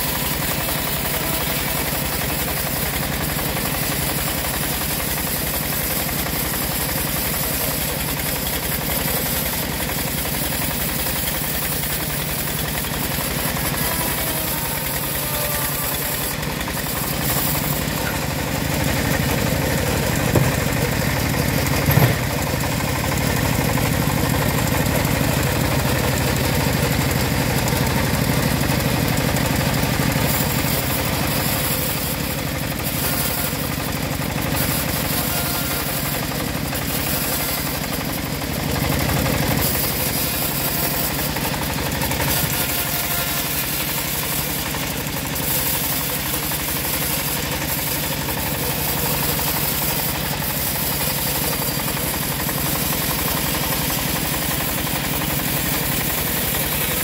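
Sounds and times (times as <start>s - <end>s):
bandsaw sawing through log: 0.0s - 57.0s.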